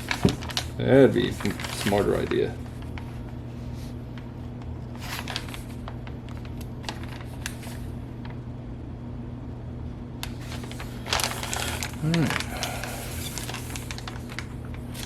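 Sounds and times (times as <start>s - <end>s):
plastic bag rustling: 0.0s - 8.4s, 10.2s - 15.0s
steady low hum: 0.0s - 15.0s.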